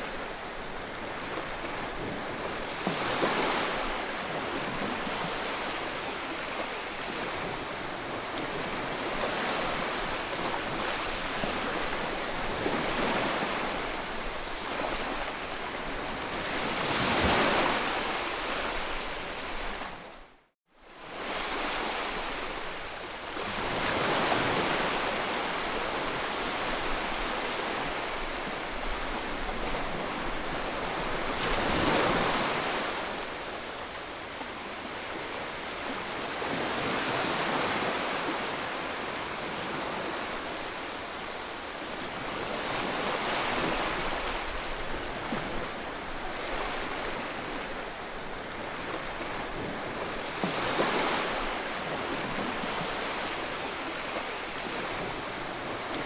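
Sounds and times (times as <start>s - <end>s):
ocean waves breaking: 0.0s - 20.0s, 23.4s - 56.0s.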